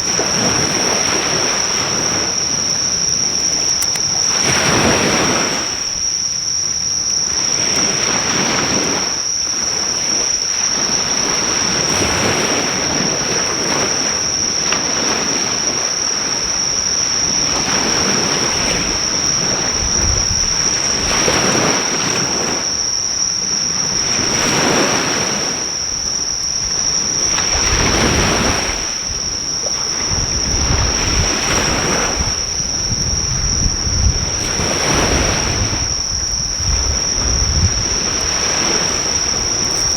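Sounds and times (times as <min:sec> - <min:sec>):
high-pitched insect chorus: 0:00.0 - 0:39.9
ocean waves washing ashore: 0:00.0 - 0:39.9.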